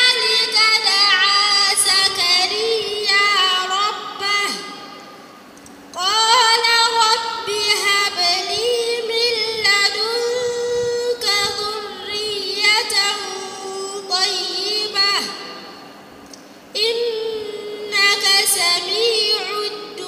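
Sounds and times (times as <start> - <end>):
girl chanting melodically: 0.0 - 5.0, 6.0 - 15.8, 16.8 - 20.0.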